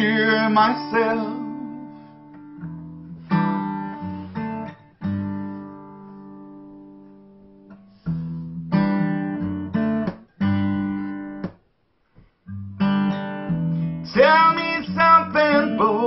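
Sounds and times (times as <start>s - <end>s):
acoustic guitar strumming: 0.0s - 11.6s, 12.4s - 16.0s.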